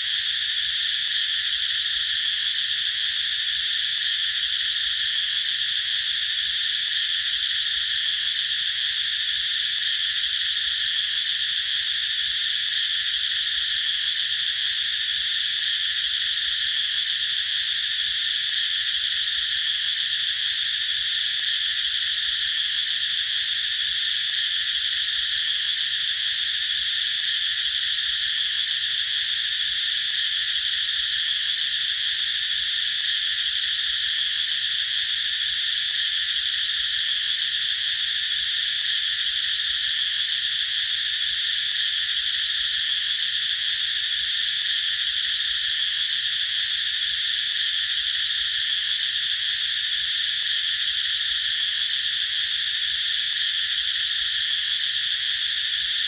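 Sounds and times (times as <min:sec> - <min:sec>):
cicadas buzzing drone: 0:00.0 - 0:56.0.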